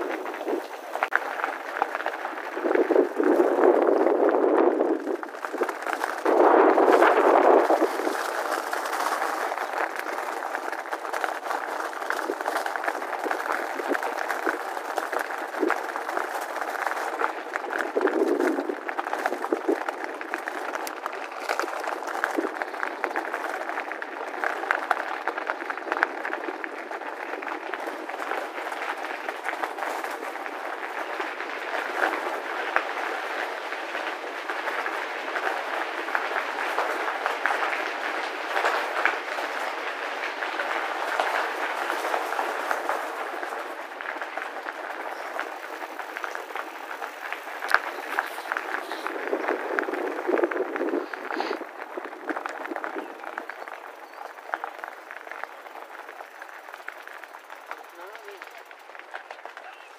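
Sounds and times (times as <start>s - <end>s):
bicycle tyres crunching on gravel: 0.0s - 59.9s.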